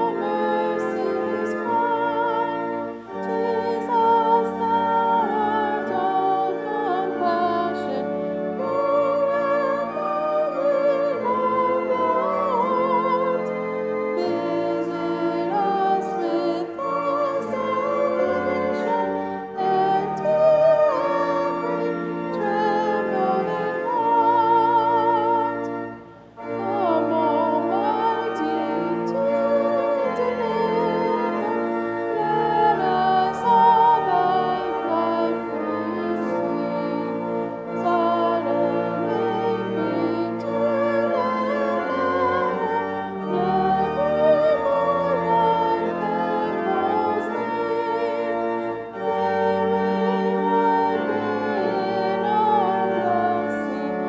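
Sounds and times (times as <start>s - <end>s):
organ chords: 0.0s - 54.0s
people singing with vibrato: 0.0s - 54.0s.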